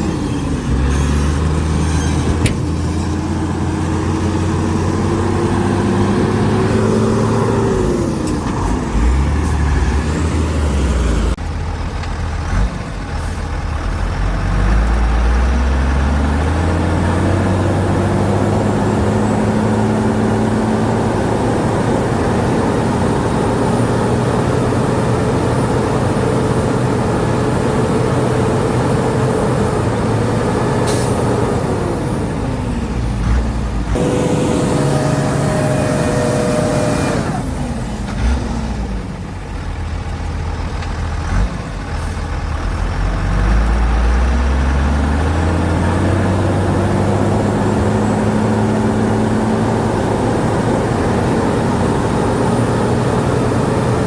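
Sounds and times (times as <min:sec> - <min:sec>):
diesel machinery engine revving: 0:00.0 - 0:54.0.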